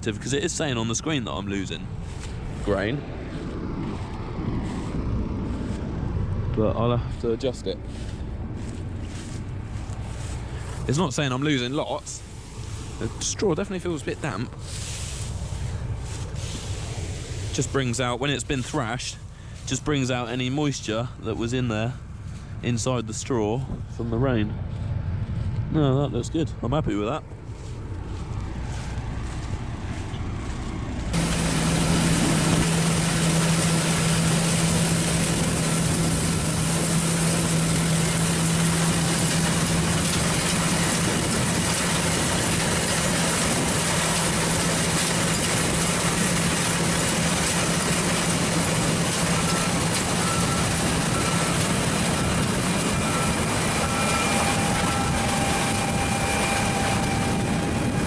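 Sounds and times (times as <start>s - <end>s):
combine harvester humming: 0.0s - 58.0s.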